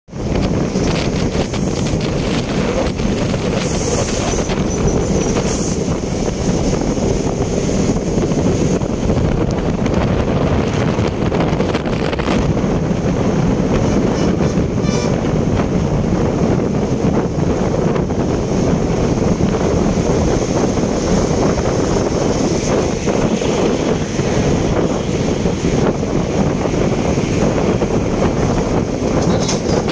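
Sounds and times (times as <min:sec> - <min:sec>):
road and traffic noise: 0:00.1 - 0:29.9
wind buffeting microphone: 0:00.1 - 0:29.9.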